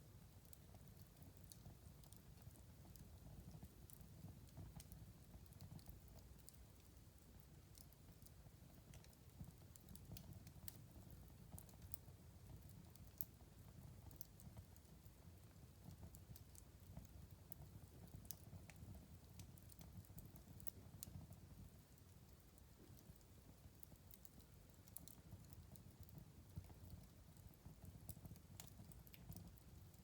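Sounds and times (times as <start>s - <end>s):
low rumble of flames: 0.1s - 30.0s
wood fire crackling: 0.1s - 30.0s.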